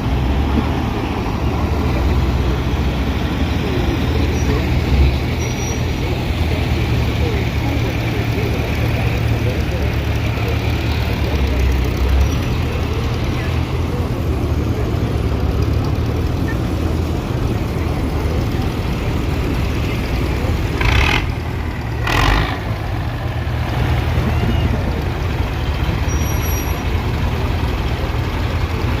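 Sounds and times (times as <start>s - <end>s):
tractor engines running: 0.0s - 29.0s.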